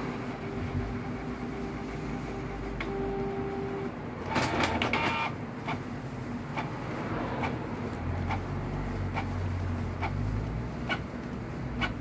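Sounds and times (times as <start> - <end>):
printer motor hum: 0.0 - 12.0
printer rapid clicking and whirring: 0.0 - 12.0.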